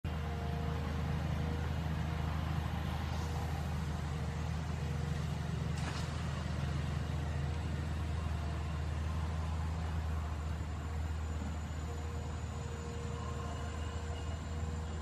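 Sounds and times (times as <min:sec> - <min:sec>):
engine idling hum: 0:00.1 - 0:15.0.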